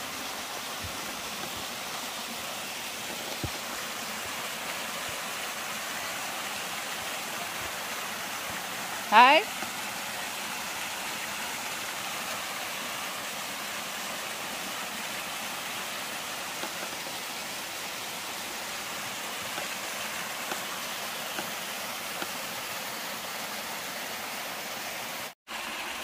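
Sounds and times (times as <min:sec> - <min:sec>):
waterfall splashing: 0:00.0 - 0:26.0.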